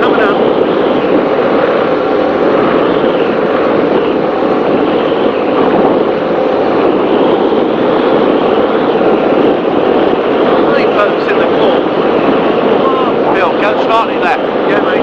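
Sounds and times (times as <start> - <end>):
powerboat engines droning: 0.0 - 15.0
rushing wind and water: 0.0 - 15.0.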